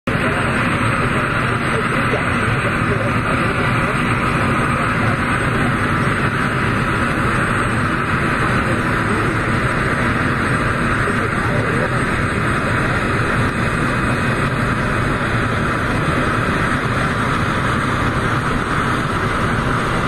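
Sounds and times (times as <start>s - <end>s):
jet engines hissing and rumbling: 0.0s - 20.0s.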